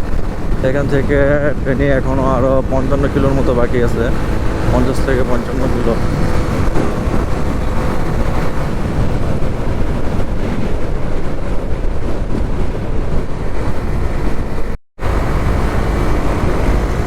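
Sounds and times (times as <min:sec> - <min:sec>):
motorcycle engine: 0:00.0 - 0:17.0
road noise: 0:00.0 - 0:17.0
wind rushing over microphone: 0:00.0 - 0:17.0.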